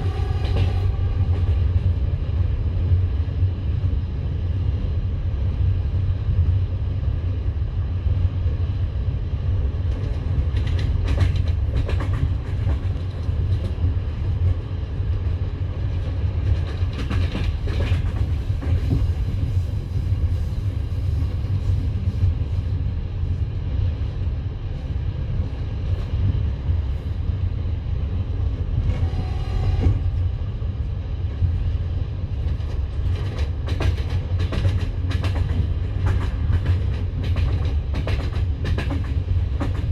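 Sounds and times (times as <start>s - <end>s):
train carriage rumbling on track: 0.0s - 39.9s.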